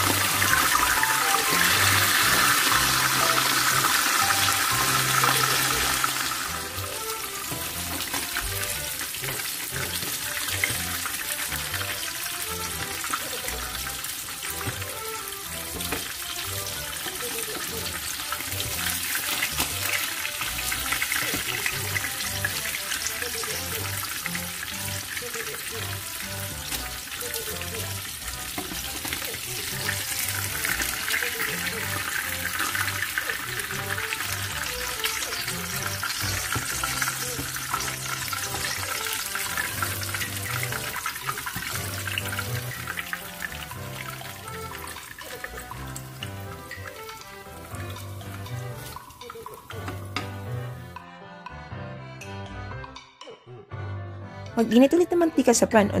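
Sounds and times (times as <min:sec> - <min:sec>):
fish sizzling in hot oil: 0:00.0 - 0:50.9
background music: 0:00.0 - 0:56.0.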